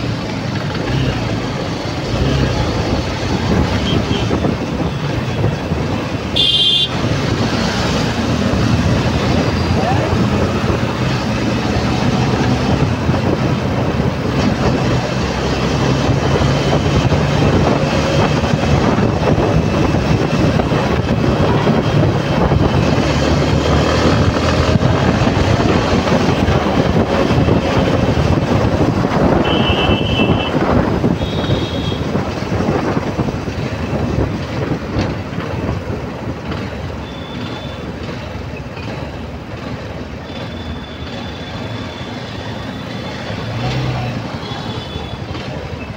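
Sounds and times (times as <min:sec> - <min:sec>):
motorbike engine humming: 0:00.0 - 0:45.9
wind and road noise: 0:00.0 - 0:45.9.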